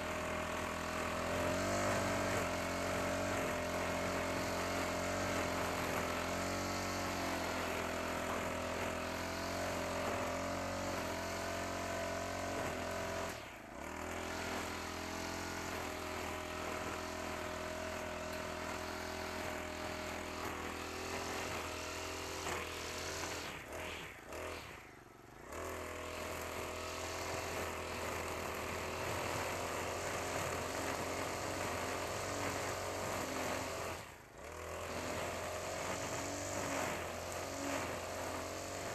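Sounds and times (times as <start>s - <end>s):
brush cutter engine trimming grass: 0.0s - 38.9s.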